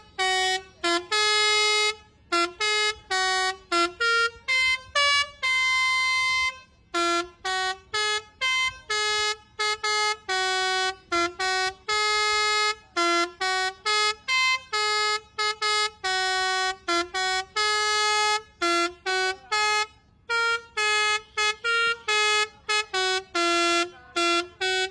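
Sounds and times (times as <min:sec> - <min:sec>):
multi-tone bus horn melody: 0:00.0 - 0:24.9.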